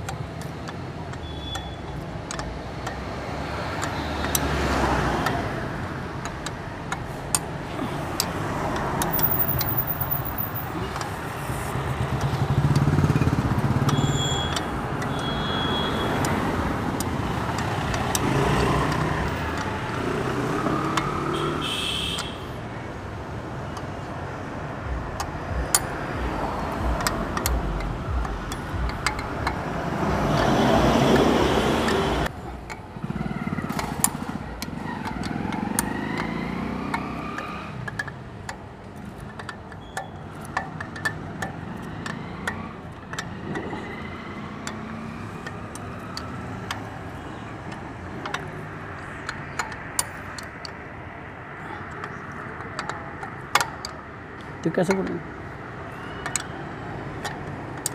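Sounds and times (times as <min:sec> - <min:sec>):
spoke wrench clicks: 0:00.0 - 0:04.5, 0:05.2 - 0:07.6, 0:08.2 - 0:11.1, 0:11.8 - 0:21.4, 0:24.7 - 0:57.9
road traffic passing: 0:00.0 - 0:57.9.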